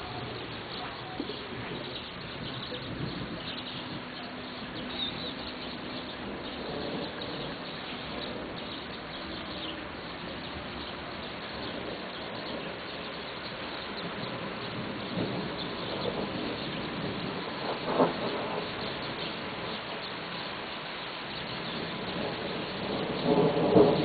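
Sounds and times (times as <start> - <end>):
small birds chirping: 0.0 - 24.0
steady outdoor hiss: 0.0 - 24.0.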